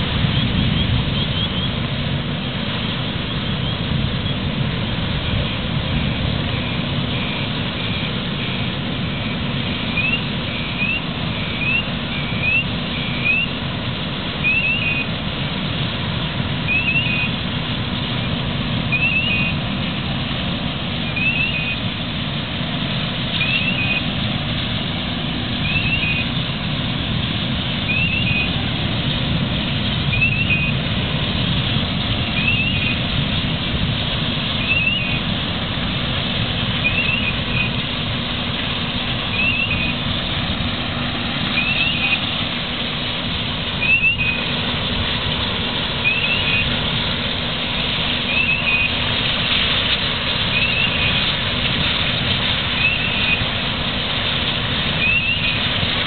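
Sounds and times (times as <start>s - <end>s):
engine hum: 0.0s - 56.0s
hiss of hose water spray: 0.0s - 56.0s
roar of burning gas flame: 0.0s - 56.0s.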